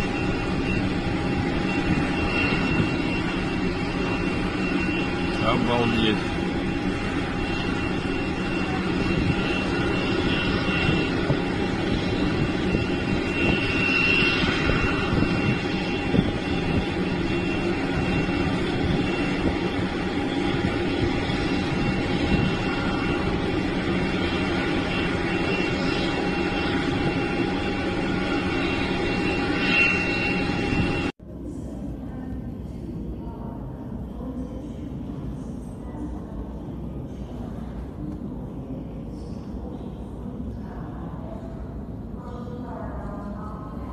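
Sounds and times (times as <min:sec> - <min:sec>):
jet engine whine and rumble: 0:00.0 - 0:43.9.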